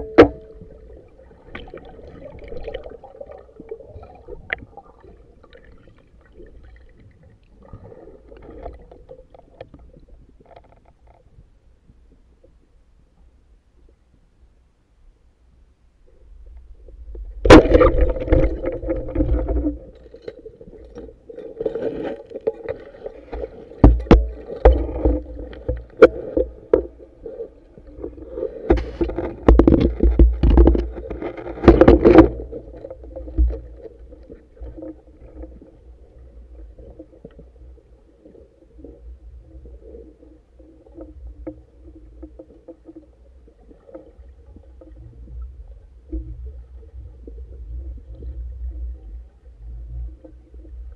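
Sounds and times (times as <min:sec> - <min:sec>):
underwater water noise: 0:00.0 - 0:50.9.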